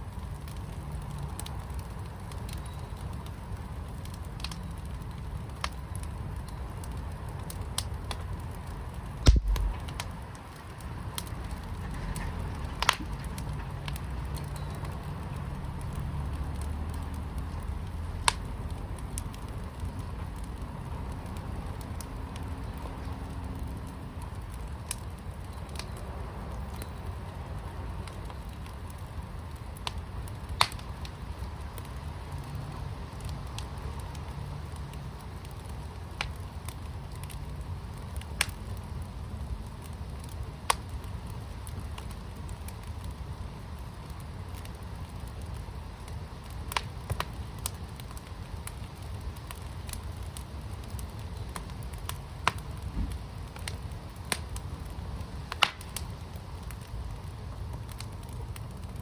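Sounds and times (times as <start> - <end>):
fire crackling and popping: 0.0 - 59.0
low rumble of fire: 0.0 - 59.0.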